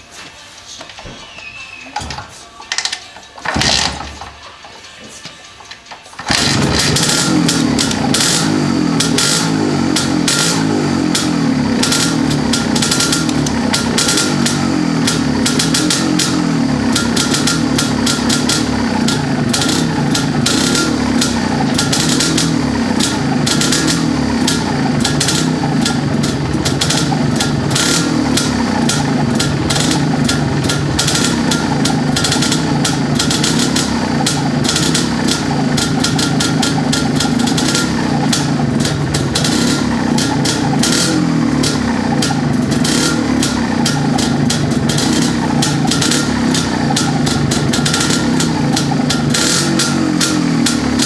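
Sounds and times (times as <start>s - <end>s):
two-stroke motorcycle engine idling: 3.5s - 4.2s, 6.2s - 51.0s.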